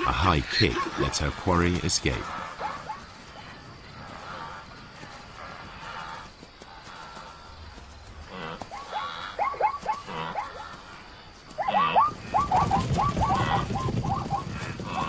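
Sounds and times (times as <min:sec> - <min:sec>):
zebras yelping barks: 0:00.0 - 0:06.2, 0:08.3 - 0:11.0, 0:11.6 - 0:15.0.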